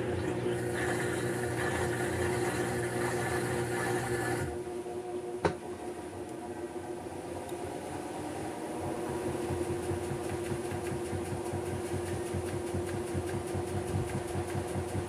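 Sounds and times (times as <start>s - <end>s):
washing machine spinning: 0.0s - 4.6s, 7.0s - 15.0s.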